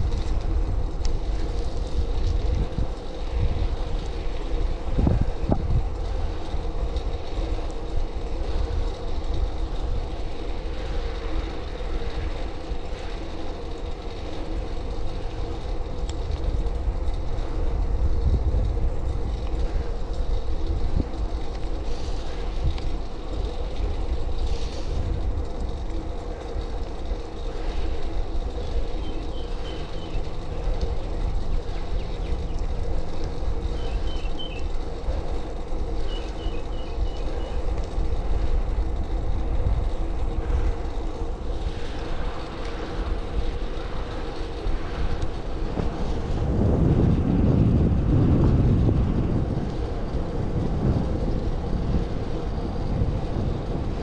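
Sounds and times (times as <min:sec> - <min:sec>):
bicycle tyres rumbling on pavement: 0:00.0 - 0:54.0
wind on microphone: 0:00.0 - 0:54.0.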